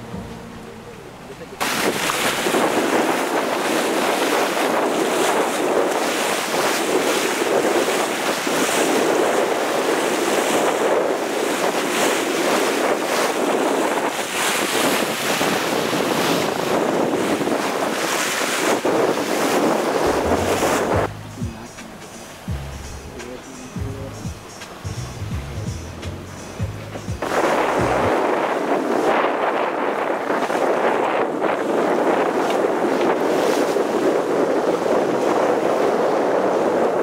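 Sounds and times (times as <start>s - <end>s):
bow wave rushing along hull: 0.0s - 37.0s
wind buffeting microphone: 0.0s - 37.0s.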